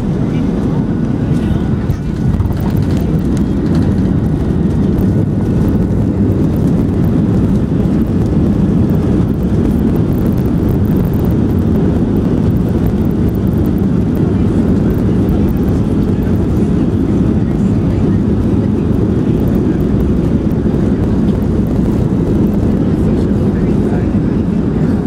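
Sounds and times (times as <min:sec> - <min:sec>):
airplane cabin engine roar: 0:00.0 - 0:25.0
wheels rolling on runway: 0:01.9 - 0:24.9.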